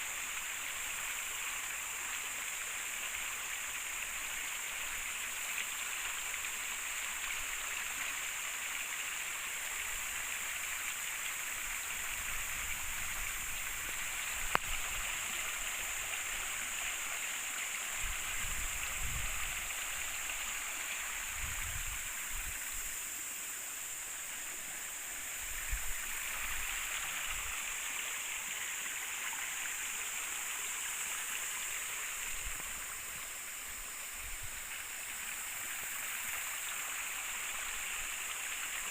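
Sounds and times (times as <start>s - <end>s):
river water running over stones: 0.0s - 38.9s.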